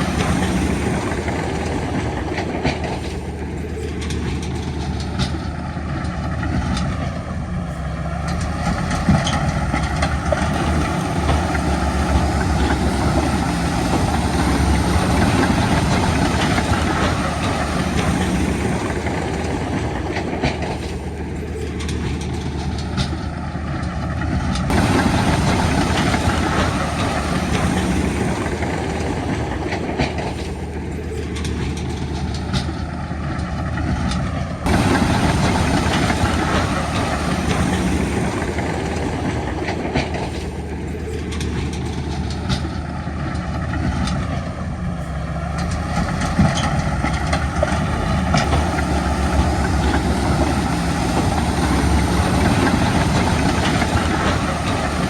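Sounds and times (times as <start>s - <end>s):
continuous metallic clatter: 0.0s - 55.0s
diesel machinery engine running: 0.0s - 55.0s.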